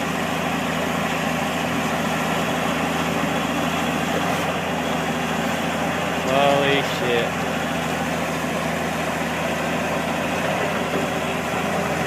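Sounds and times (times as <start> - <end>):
heavy vehicle engine droning: 0.0 - 12.0.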